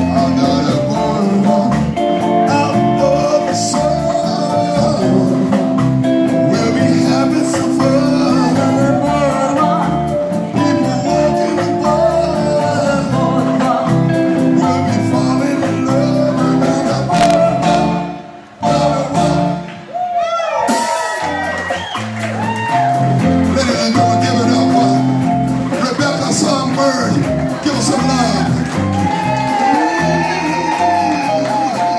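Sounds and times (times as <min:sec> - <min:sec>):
live band with vocals: 0:00.0 - 0:31.9.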